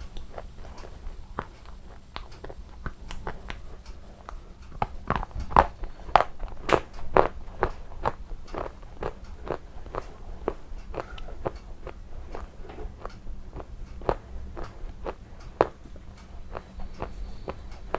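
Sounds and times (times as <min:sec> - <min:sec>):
person chewing crunchy food: 0:00.0 - 0:17.9.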